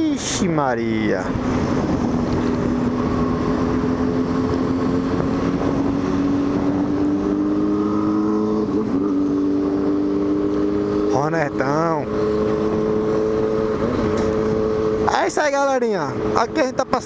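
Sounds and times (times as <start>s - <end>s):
road and wind noise: 0.0s - 17.0s
motorcycle engine running: 1.6s - 17.0s.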